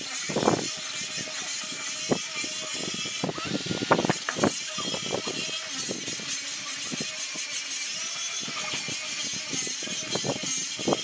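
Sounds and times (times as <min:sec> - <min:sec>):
steady high-pitched buzz: 0:00.0 - 0:11.0.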